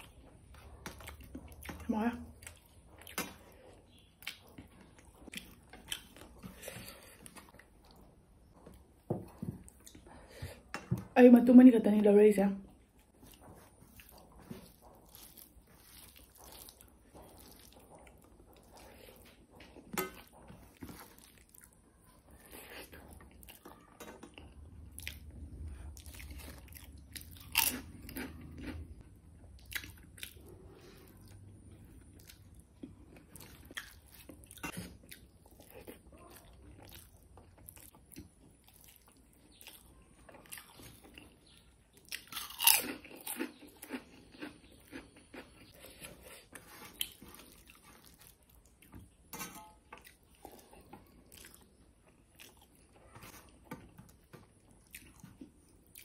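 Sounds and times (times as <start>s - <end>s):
person chewing wetly: 0.0s - 8.9s, 12.8s - 56.0s.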